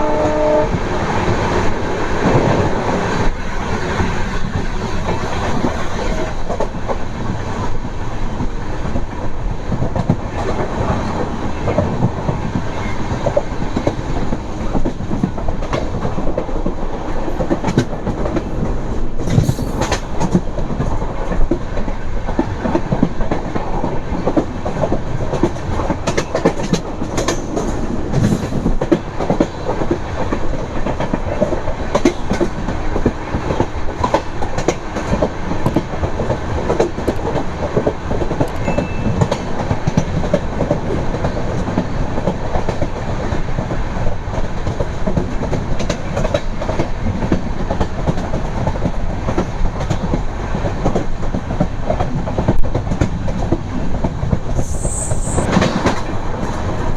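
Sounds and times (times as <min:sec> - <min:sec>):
clickety-clack over rail joints: 0:00.0 - 0:54.6, 0:55.5 - 0:56.9
train wheels rumbling on rail: 0:00.0 - 0:56.9.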